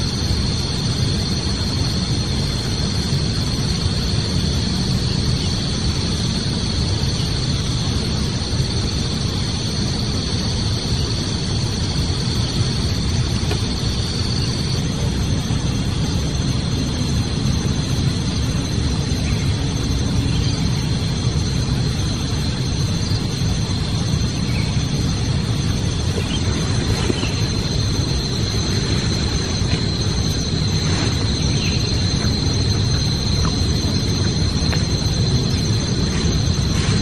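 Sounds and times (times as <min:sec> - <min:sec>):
high-pitched whine: 0:00.0 - 0:37.0
wind rumbling on microphone: 0:00.0 - 0:37.0.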